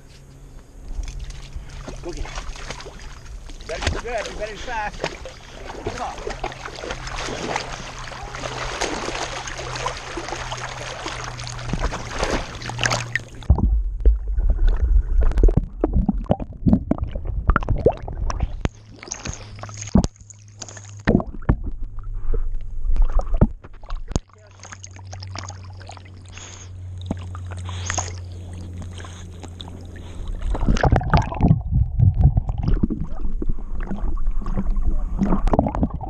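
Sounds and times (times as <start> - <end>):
water splashing around swimming dog: 0.9 - 13.7, 17.0 - 21.7, 22.9 - 36.0
muffled underwater gurgling: 1.6 - 20.2, 21.0 - 36.0.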